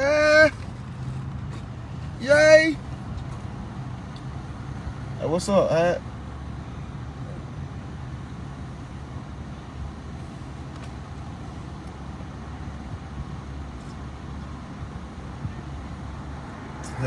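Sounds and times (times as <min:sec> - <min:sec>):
motor vehicle low rumble: 0:00.0 - 0:17.0.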